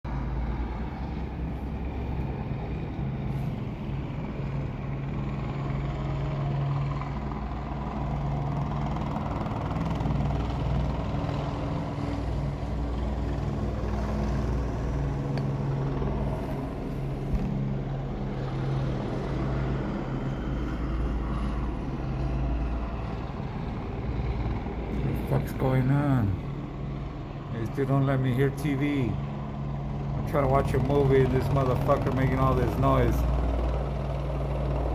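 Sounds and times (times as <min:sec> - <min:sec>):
helicopter hovering: 0:00.0 - 0:34.9.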